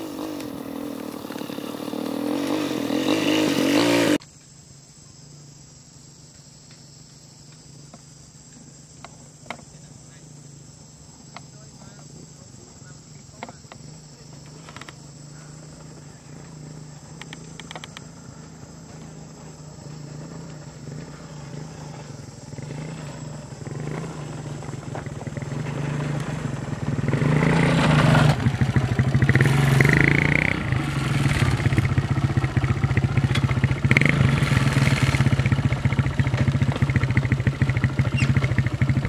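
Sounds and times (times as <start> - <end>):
small motorbike engine approaching: 0.0 - 4.2, 8.6 - 39.0.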